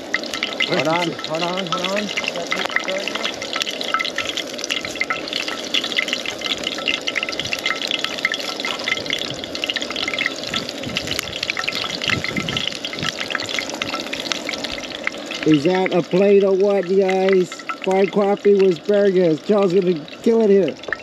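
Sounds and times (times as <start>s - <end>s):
oil sizzling in a frying pan: 0.0s - 21.0s.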